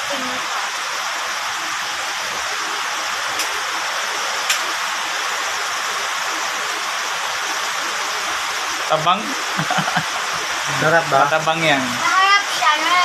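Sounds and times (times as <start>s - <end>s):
electric fan hiss: 0.0s - 13.0s.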